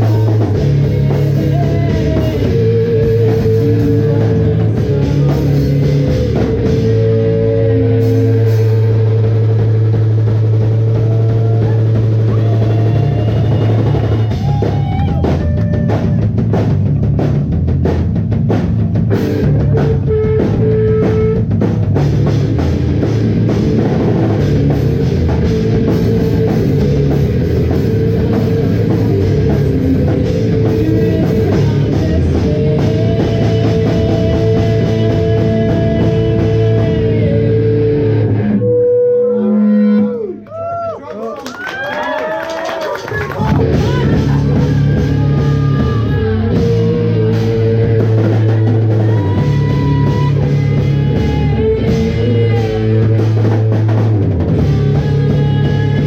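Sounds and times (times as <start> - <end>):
rock band playing live: 0.0 - 40.3, 43.0 - 56.0.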